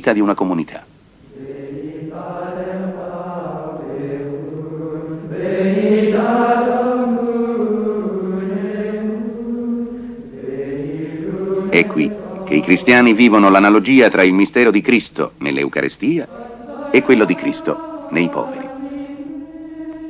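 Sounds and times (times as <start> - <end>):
choir chanting long notes: 1.3 - 14.8, 16.0 - 20.0.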